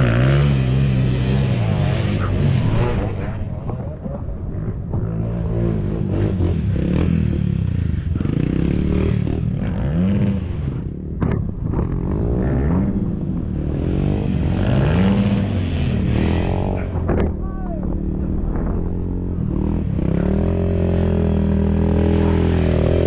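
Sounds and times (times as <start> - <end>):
dirt bike engine revving: 0.0 - 17.2, 17.9 - 23.0.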